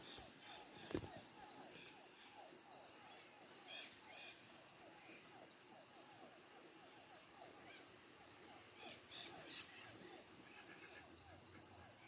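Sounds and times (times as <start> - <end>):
high-pitched insect whine: 0.0 - 12.0.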